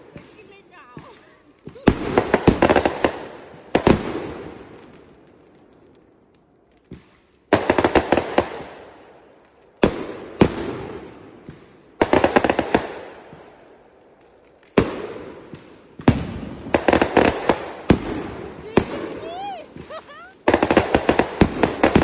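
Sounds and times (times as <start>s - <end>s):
fireworks cracking and crackling: 0.0s - 22.0s.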